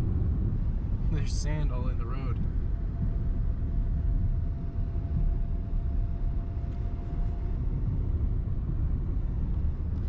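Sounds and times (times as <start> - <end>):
car engine and tyre rumble: 0.0 - 10.0
faint steady whine: 0.0 - 10.0.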